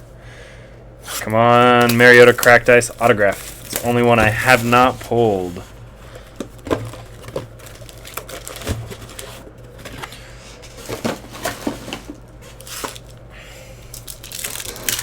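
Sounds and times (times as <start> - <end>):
steady low hum: 0.0 - 15.0
card packs crinkling and clicking: 1.1 - 13.3, 13.9 - 15.0.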